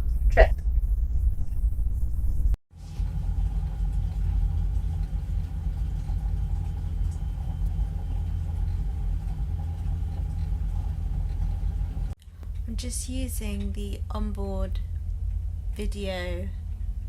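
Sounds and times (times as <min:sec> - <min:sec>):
faint steady hum: 0:00.0 - 0:17.0
ferry engines rumbling: 0:02.4 - 0:17.0.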